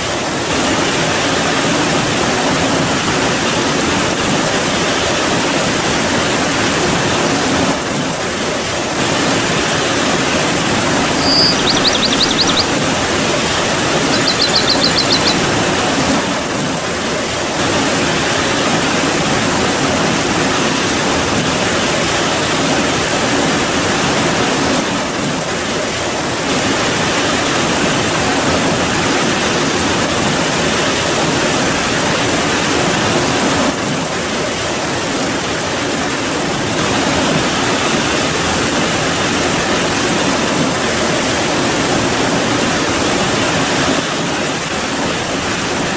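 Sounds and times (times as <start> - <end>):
heavy rainfall: 0.0 - 45.9.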